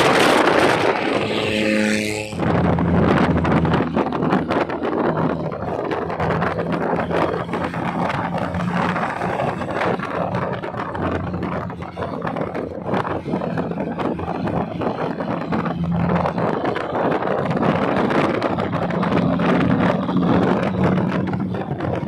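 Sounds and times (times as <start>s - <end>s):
car engine and exhaust drone: 0.0s - 22.0s
road and wind noise: 0.0s - 22.0s.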